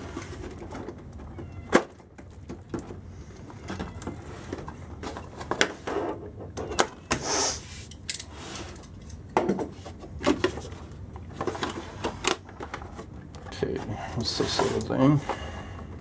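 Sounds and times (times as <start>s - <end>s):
cardboard and plastic rustling: 0.0s - 16.0s.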